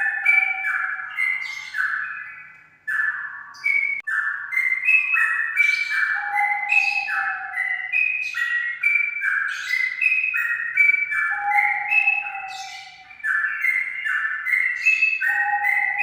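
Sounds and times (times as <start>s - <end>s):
bulbul singing whistled phrases: 0.0s - 16.0s.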